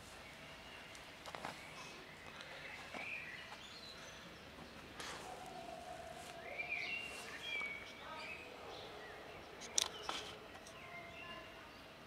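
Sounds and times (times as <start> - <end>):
faint outdoor background noise: 0.0 - 12.0
small birds chirping: 0.0 - 12.0.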